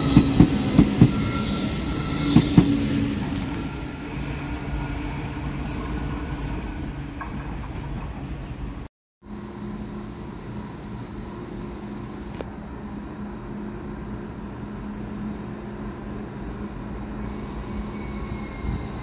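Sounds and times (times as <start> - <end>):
train electric hum: 0.0 - 19.0.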